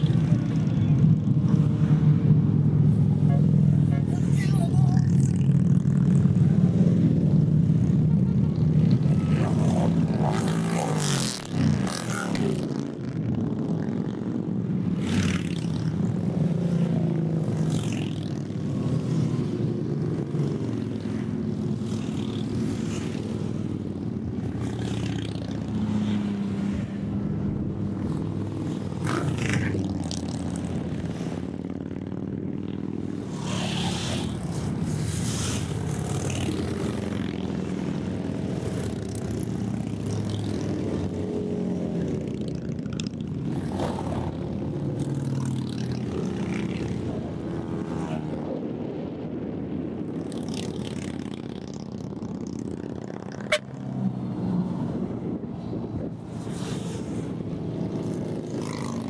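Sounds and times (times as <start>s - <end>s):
motorcycles riding past: 0.0s - 59.0s.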